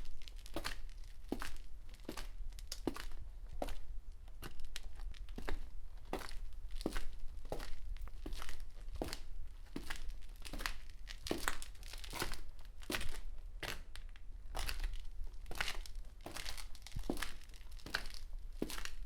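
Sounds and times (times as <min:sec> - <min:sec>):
footsteps on concrete: 0:00.0 - 0:19.0.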